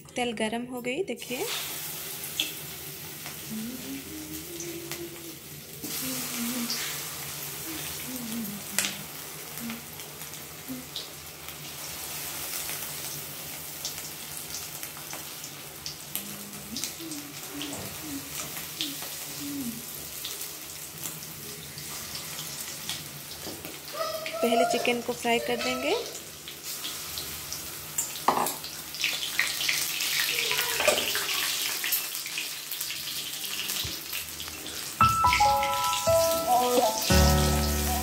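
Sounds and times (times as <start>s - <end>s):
chicken sizzling in hot oil: 1.2s - 38.0s.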